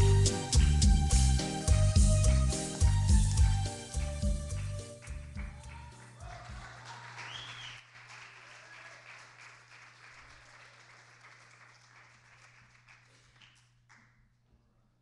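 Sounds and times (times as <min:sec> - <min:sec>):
congregation applauding: 0:00.0 - 0:14.2.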